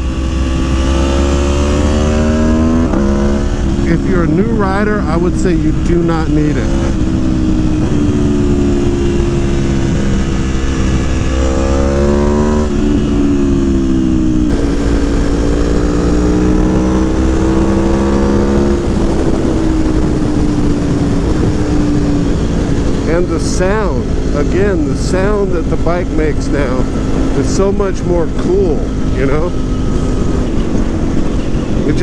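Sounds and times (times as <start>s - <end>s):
motorcycle engine revving under load: 0.0s - 32.0s.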